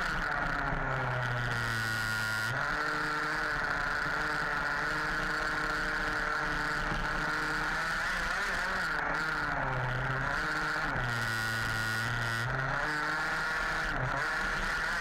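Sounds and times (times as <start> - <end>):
small two-stroke engine droning: 0.0 - 15.0.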